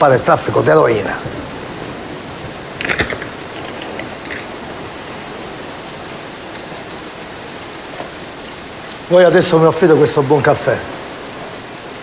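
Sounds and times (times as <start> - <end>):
rain-like hiss: 0.0 - 12.0.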